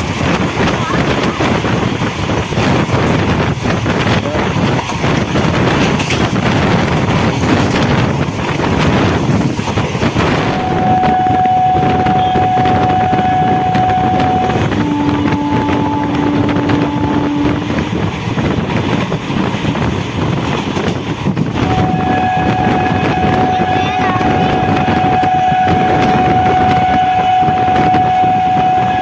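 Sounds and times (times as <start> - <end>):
passenger train rumbling: 0.0 - 29.0
wind buffeting microphone: 0.0 - 29.0.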